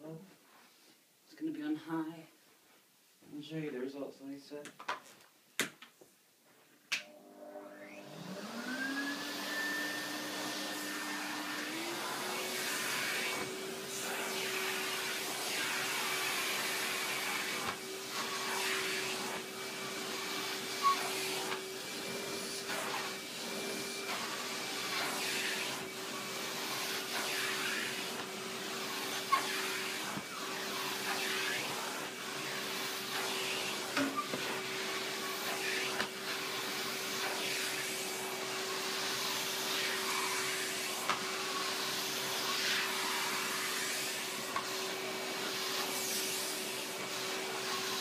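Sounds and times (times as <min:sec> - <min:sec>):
vacuum cleaner motor whine: 0:07.0 - 0:48.0.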